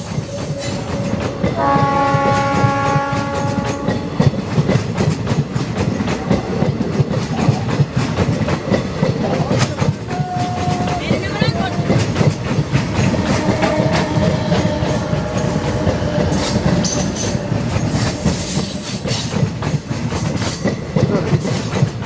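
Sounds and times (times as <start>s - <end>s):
train rumble: 0.0s - 22.0s
wheels clattering over rail joints: 0.0s - 22.0s.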